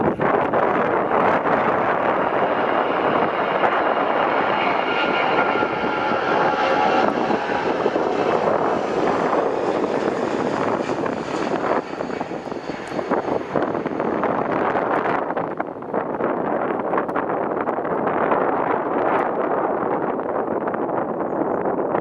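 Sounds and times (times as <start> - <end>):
jet engine roar: 0.0 - 21.1.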